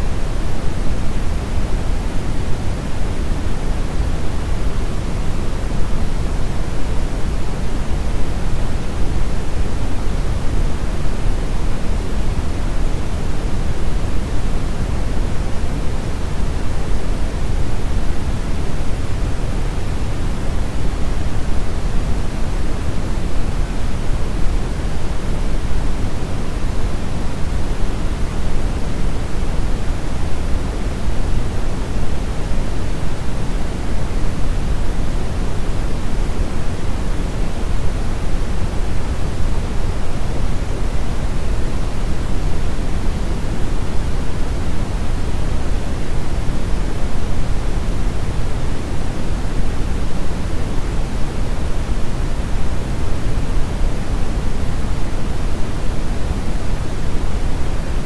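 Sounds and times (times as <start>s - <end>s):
brown noise rumbling hiss: 0.0s - 58.0s.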